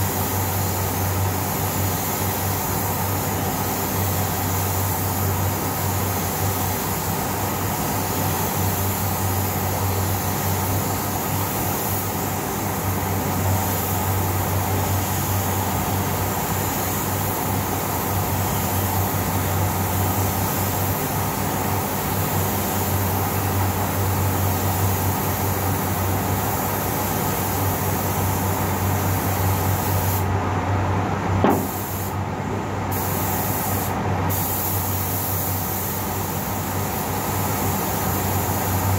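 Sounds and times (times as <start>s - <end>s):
paint spray gun hissing: 0.0s - 30.3s, 31.4s - 32.2s, 32.9s - 38.9s
ventilation hum: 0.0s - 38.9s.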